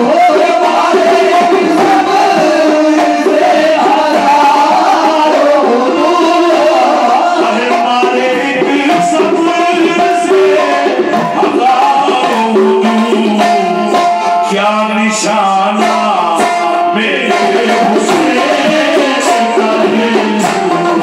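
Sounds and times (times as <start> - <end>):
harmoniums playing: 0.0 - 21.0
men singing: 0.0 - 21.0.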